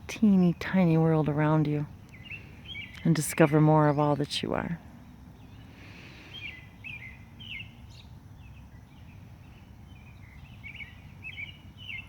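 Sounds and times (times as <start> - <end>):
low background rumble: 0.0 - 12.0
songbird chirping: 0.0 - 12.0.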